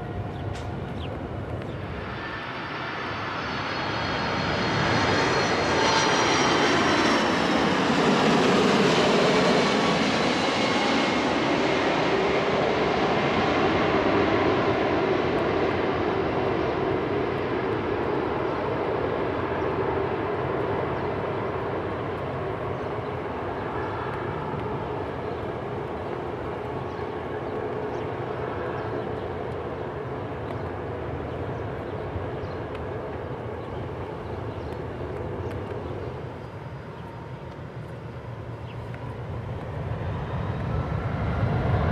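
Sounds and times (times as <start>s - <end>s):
jet engines whining overhead: 0.0s - 41.9s.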